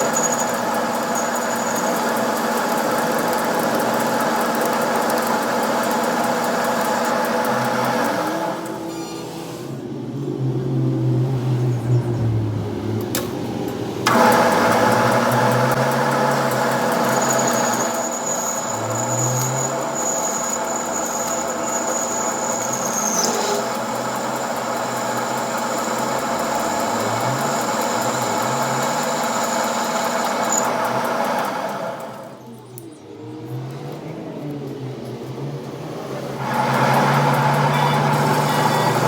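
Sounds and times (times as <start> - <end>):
workshop machine whining and humming: 0.0 - 39.0.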